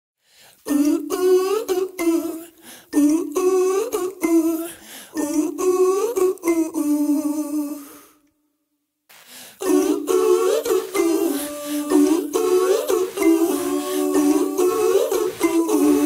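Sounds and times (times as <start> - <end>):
person humming a wordless melody: 0.7 - 8.2, 9.6 - 16.0.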